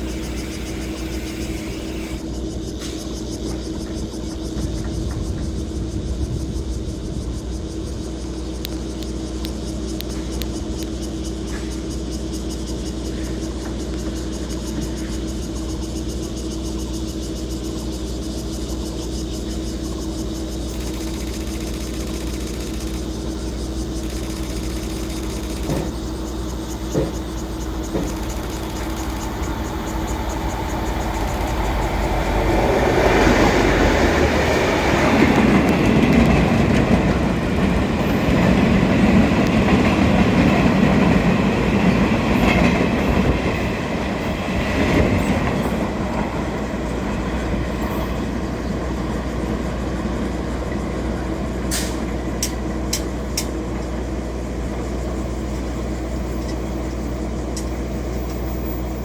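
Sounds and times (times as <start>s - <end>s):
train wheels rumbling and clacking: 0.0s - 59.0s.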